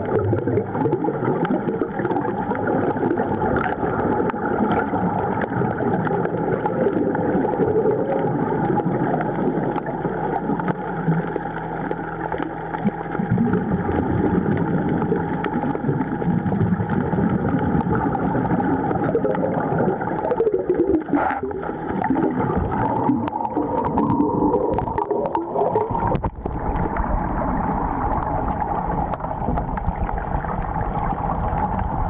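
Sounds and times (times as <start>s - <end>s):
low steady hum: 0.0s - 32.0s
underwater bubbling and gurgling: 0.0s - 32.0s.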